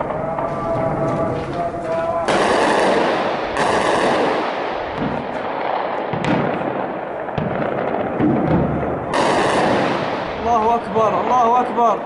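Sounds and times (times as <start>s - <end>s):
gunshots: 0.0s - 12.0s.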